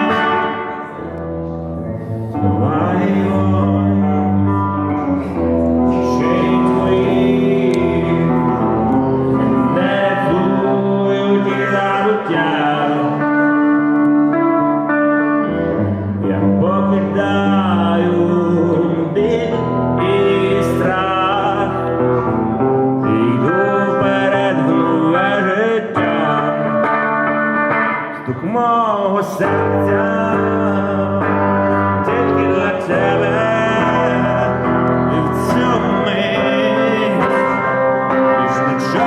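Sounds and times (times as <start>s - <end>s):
band playing live: 0.0s - 39.0s.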